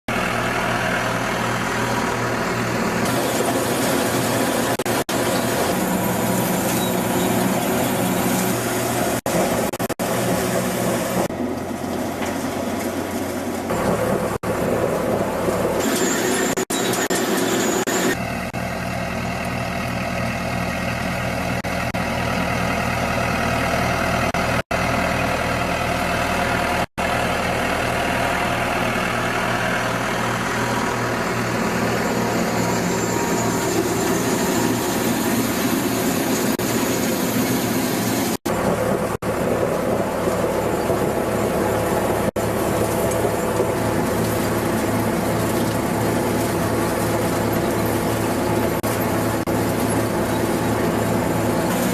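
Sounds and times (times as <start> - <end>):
harvester machinery drone: 0.1 - 51.9.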